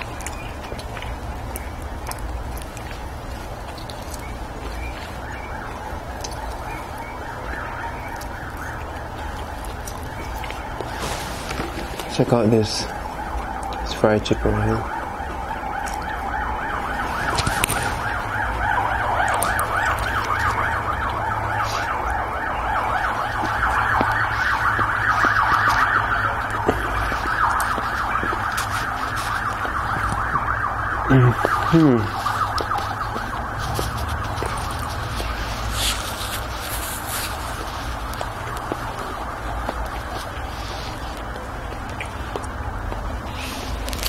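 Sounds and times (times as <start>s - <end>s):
siren yelping: 0.0s - 41.8s.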